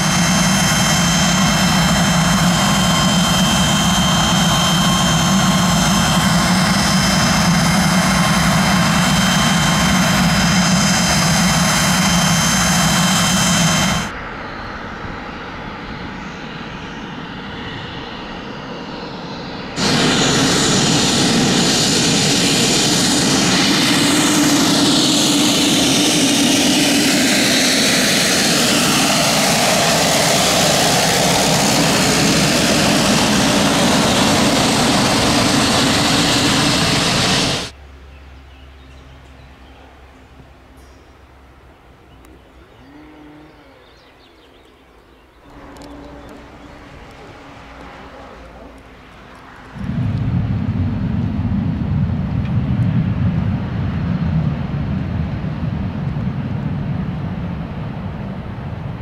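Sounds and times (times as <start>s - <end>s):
jet engines idling: 0.0s - 37.8s, 45.4s - 59.0s
turboprop plane taxiing: 0.0s - 37.8s, 45.4s - 59.0s.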